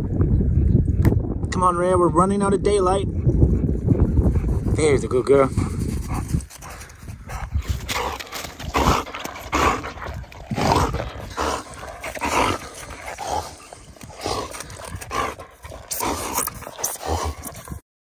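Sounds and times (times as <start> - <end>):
dog panting: 3.0 - 17.8.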